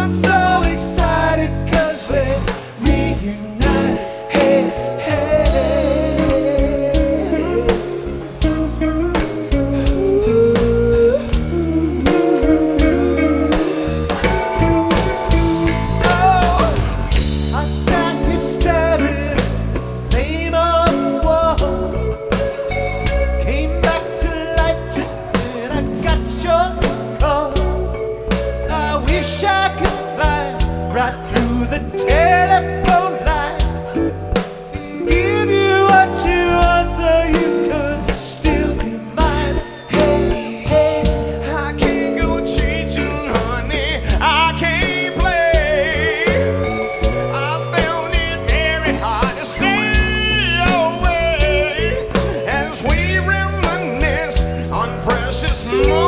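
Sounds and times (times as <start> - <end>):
lead singer singing: 0.0 - 56.0
live rock band playing: 0.0 - 56.0.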